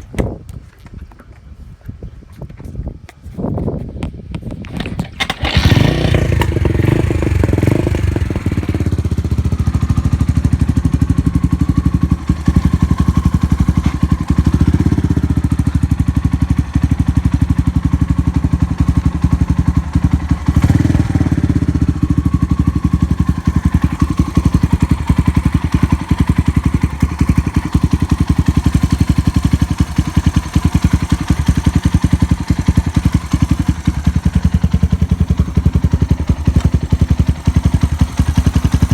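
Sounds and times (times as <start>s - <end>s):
motorcycle engine idling and revving: 3.8s - 38.9s.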